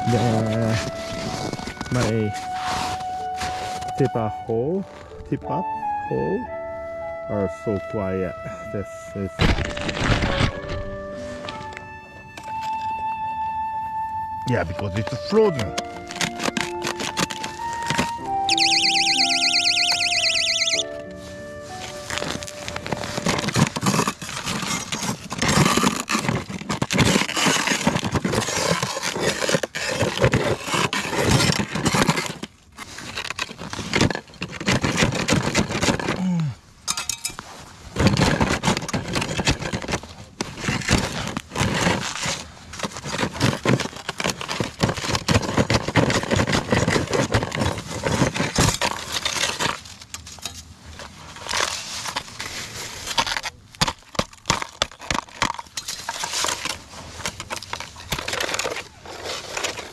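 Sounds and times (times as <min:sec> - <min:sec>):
ice crunching and scraping: 0:00.0 - 0:04.2, 0:09.4 - 0:11.8, 0:14.6 - 0:59.9.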